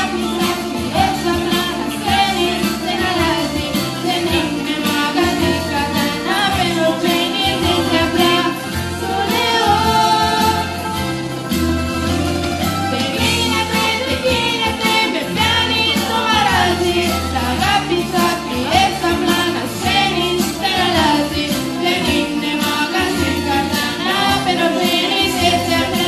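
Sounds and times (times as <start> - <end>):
girls singing: 0.0 - 11.1, 12.9 - 26.0
bouzouki: 0.0 - 26.0
electric keyboard: 0.0 - 26.0.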